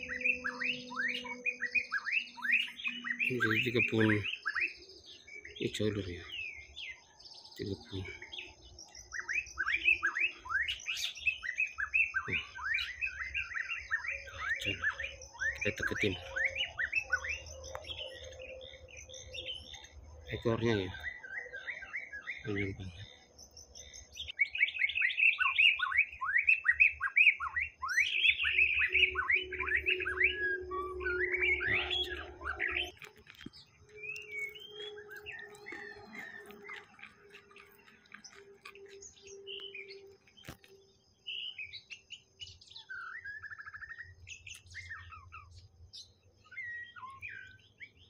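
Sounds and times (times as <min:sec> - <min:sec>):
bird singing whistled notes: 0:00.0 - 0:48.0.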